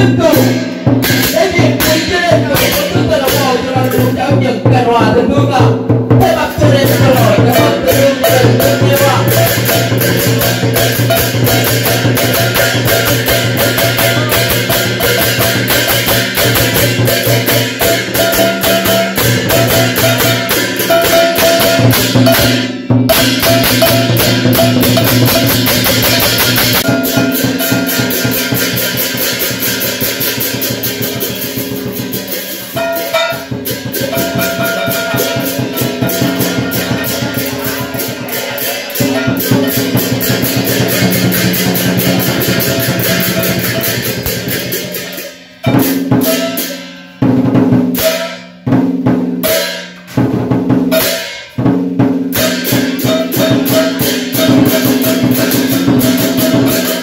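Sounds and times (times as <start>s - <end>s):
fast drum roll: 0.0s - 57.0s.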